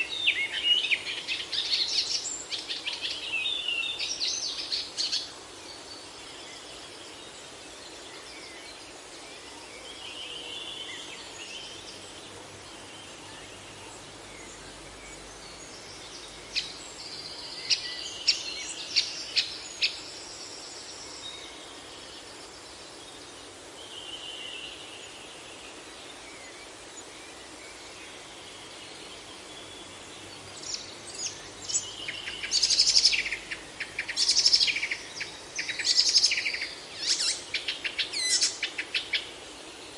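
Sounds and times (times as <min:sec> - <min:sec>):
birds calling and singing: 0:00.0 - 0:39.9
steady outdoor hiss: 0:00.0 - 0:39.9.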